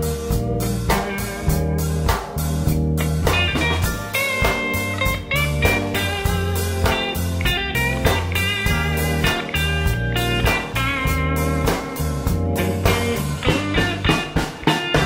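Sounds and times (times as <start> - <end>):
bass guitar: 0.0 - 15.0
electric guitar lines: 0.0 - 15.0
organ: 0.0 - 15.0
drum beat: 0.3 - 15.0.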